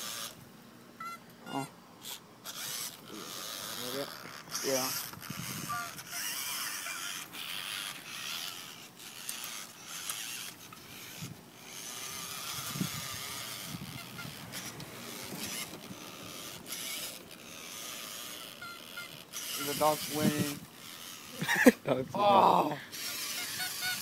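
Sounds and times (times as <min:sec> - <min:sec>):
toy truck motor whirring: 0:00.0 - 0:00.4, 0:01.0 - 0:21.8, 0:22.9 - 0:24.0.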